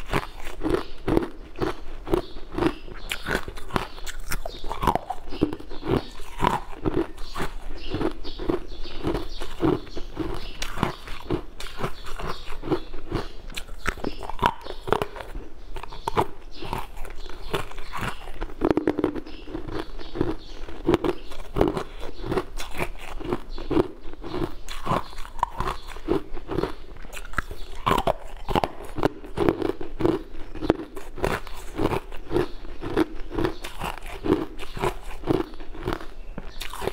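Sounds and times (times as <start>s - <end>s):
chewing: 0.0s - 36.9s.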